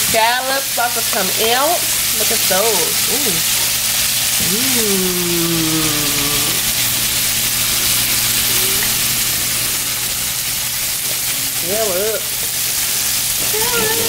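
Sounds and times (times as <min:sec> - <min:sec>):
oil sizzling in a saucepan: 0:00.0 - 0:14.0.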